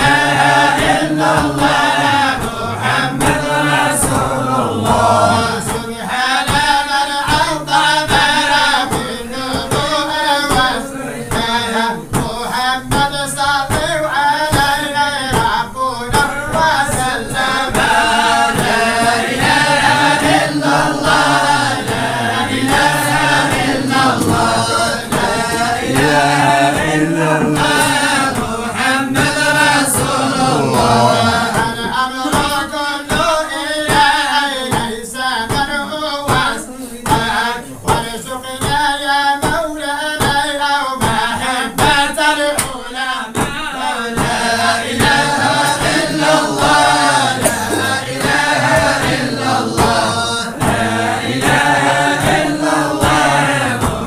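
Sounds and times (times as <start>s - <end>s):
group singing a chant: 0.0s - 54.0s.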